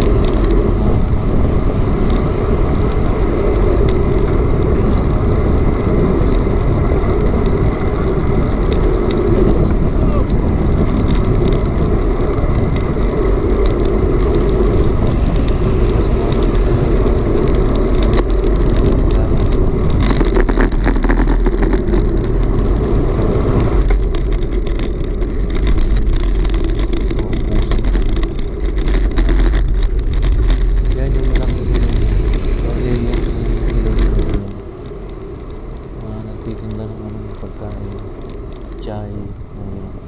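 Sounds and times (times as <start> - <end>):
bicycle road noise: 0.0 - 40.0
wind rushing over microphone: 0.0 - 40.0
rapid clicking rattle: 2.9 - 39.2.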